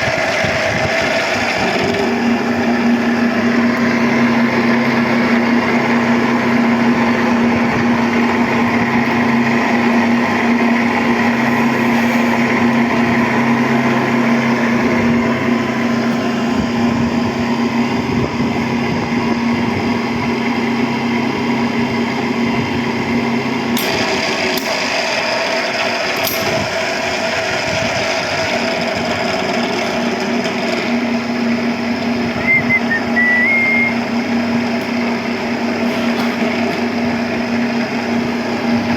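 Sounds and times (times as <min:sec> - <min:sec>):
pipe-threading machine running: 0:00.0 - 0:38.9.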